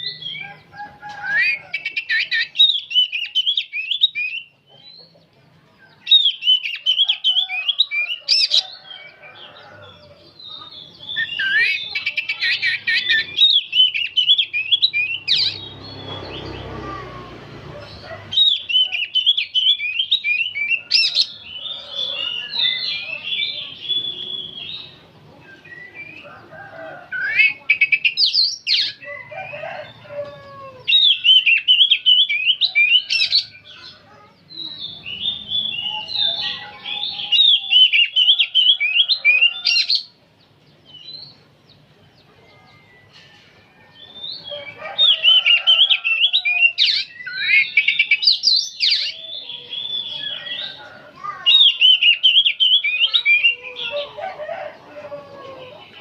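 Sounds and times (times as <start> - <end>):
bird chattering song: 0.0 - 17.1, 17.7 - 26.4, 27.2 - 29.1, 30.8 - 43.4, 44.0 - 54.2.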